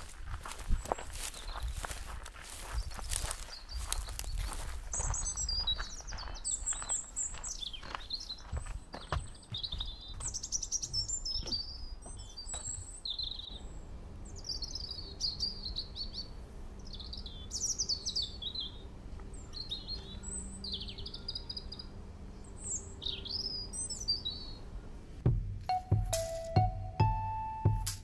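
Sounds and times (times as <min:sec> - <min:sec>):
songbirds chirping and trilling: 0:00.0 - 0:27.5.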